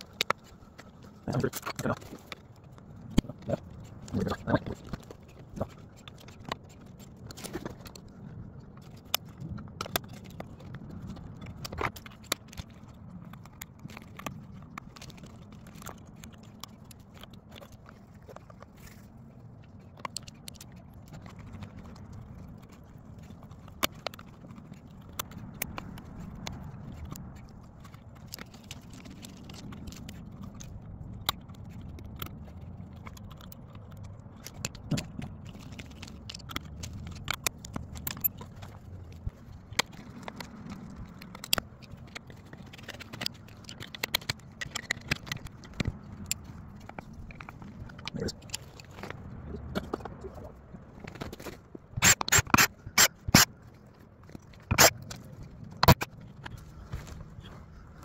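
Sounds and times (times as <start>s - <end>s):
hand tools clicking and scraping: 0.0s - 58.0s.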